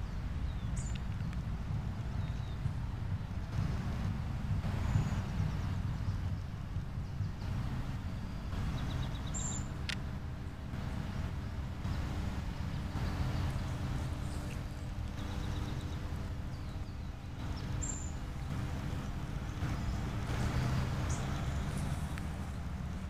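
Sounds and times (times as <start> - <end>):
low outdoor rumble: 0.0 - 23.0
high bird chirps: 4.5 - 23.0.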